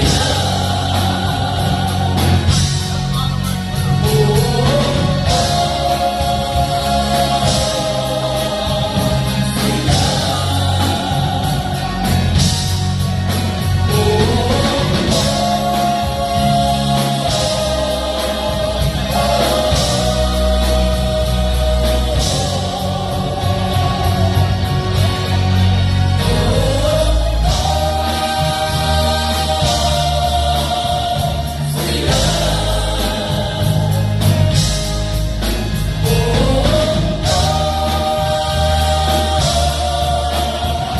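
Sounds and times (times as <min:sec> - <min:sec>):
bass line: 0:00.0 - 0:40.9
drums: 0:00.0 - 0:40.9
gospel choir singing: 0:00.0 - 0:40.9.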